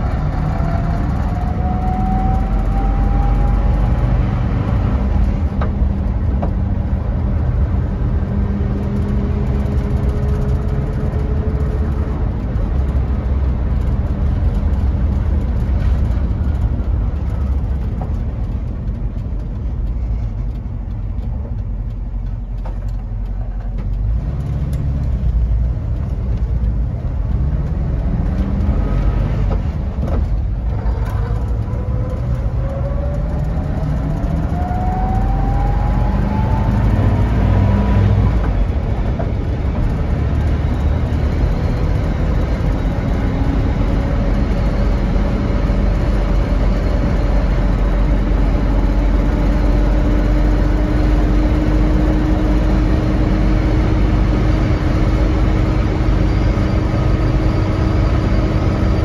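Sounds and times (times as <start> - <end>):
van engine running while driving: 0.0 - 59.0.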